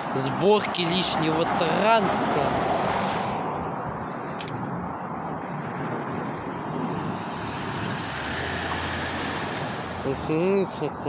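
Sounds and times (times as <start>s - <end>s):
cars driving by: 0.0s - 11.0s.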